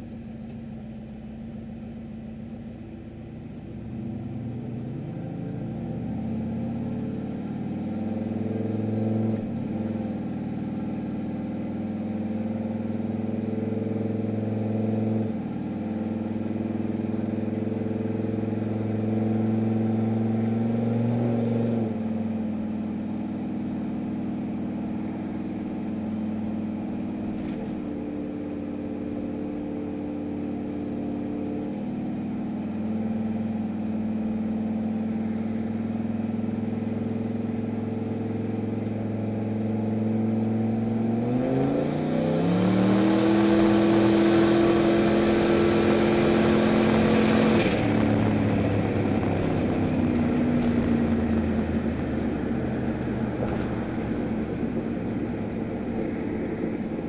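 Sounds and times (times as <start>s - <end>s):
pickup engine running: 0.0s - 41.4s, 42.3s - 57.0s.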